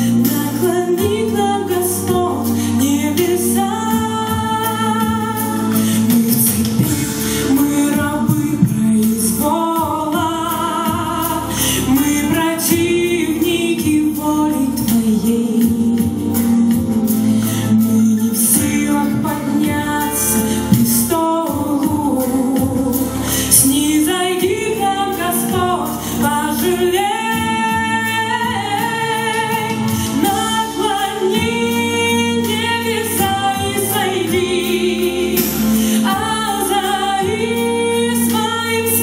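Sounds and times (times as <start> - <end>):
person singing worship song: 0.0 - 16.2, 17.2 - 39.0
instrumental backing: 0.0 - 39.0.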